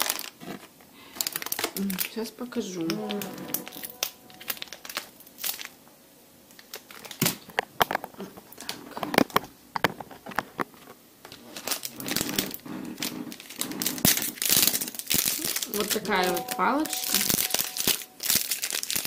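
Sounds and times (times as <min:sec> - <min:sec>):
plastic wrapper crinkling: 0:00.0 - 0:05.8, 0:06.5 - 0:19.0.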